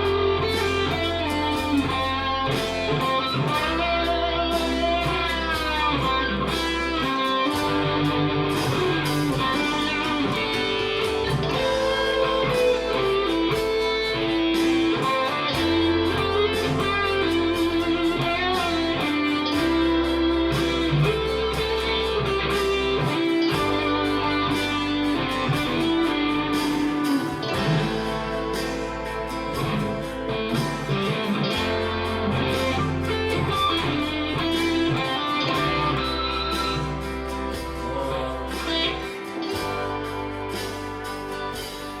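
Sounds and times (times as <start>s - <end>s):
bass guitar: 0.0s - 42.0s
drums: 0.0s - 42.0s
lead guitar with string bends: 0.0s - 42.0s.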